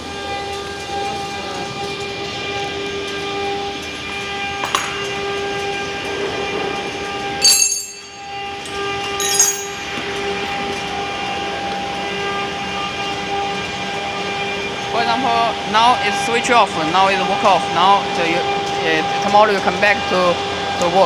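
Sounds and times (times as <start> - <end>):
engraving machine motor whine: 0.0 - 21.0.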